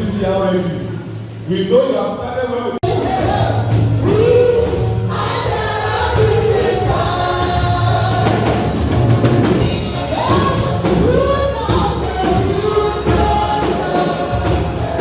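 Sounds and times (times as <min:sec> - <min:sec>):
group singing gospel music: 0:02.7 - 0:15.0
instrumental backing with bass line: 0:02.8 - 0:15.0.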